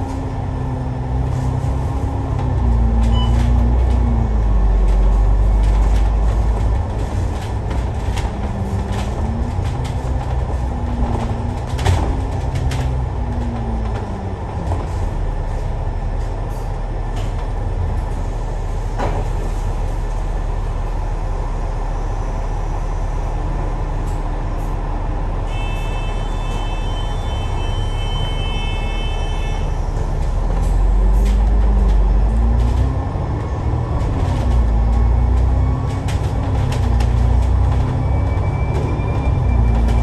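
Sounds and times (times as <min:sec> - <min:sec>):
bus engine: 0:00.0 - 0:40.0.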